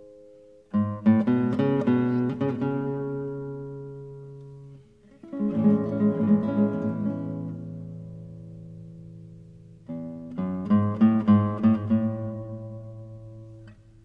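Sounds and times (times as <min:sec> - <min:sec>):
acoustic guitar plucked notes: 0:00.0 - 0:14.0.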